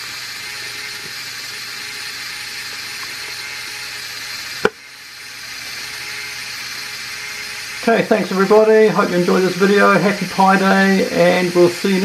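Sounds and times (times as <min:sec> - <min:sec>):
electric motor and plastic gears whirring: 0:00.0 - 0:12.0.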